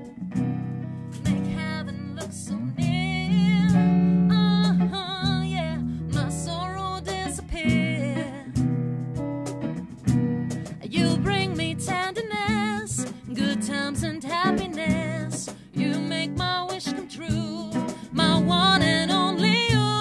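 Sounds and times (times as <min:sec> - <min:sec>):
acoustic guitar strummed: 0:00.0 - 0:20.0
woman singing with vibrato: 0:01.3 - 0:08.6, 0:10.8 - 0:20.0.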